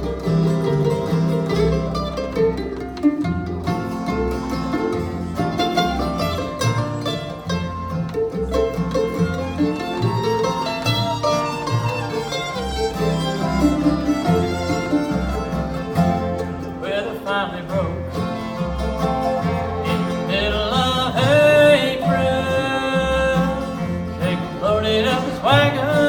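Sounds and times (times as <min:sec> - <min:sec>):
bluegrass string band playing: 0:00.0 - 0:26.0
low bass notes: 0:00.0 - 0:26.0
mandolin: 0:00.0 - 0:26.0.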